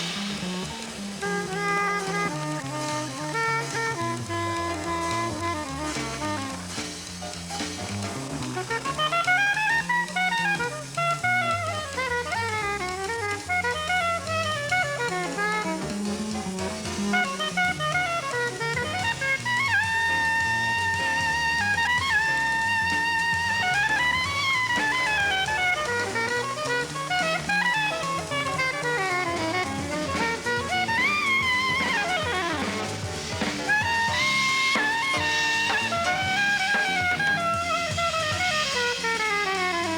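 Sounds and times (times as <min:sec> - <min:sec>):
drum kit: 0:00.0 - 0:39.9
jazz melody line: 0:00.0 - 0:39.9
walking bass: 0:00.0 - 0:39.9.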